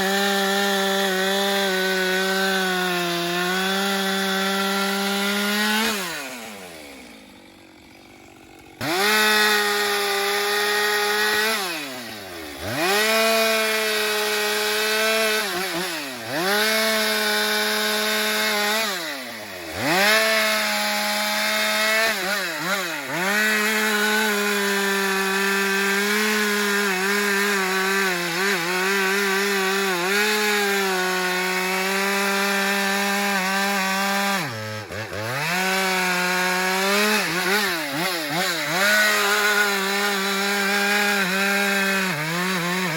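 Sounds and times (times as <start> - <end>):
chainsaw cutting through wood: 0.0 - 42.9.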